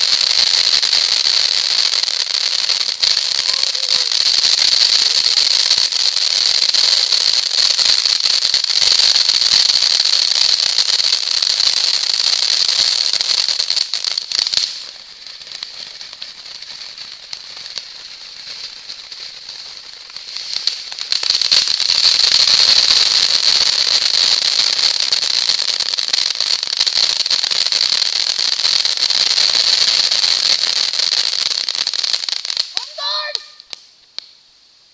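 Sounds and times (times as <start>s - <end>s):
firework fountains crackling: 0.0s - 34.9s.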